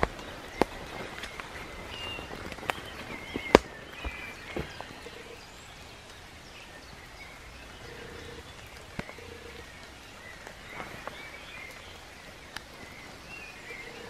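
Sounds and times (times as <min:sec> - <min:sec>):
outdoor hush: 0:00.0 - 0:14.0
small birds chirping: 0:00.0 - 0:14.0.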